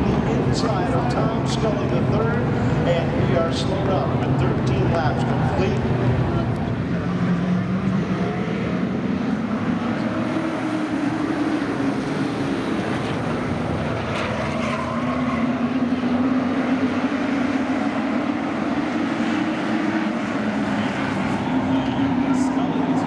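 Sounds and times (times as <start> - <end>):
race truck engines droning: 0.0 - 23.0.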